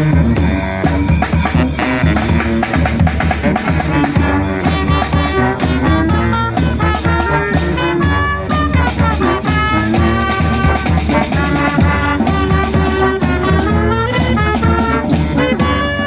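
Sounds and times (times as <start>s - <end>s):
brass band horns: 0.0s - 16.0s
steady drum beat: 0.0s - 16.0s.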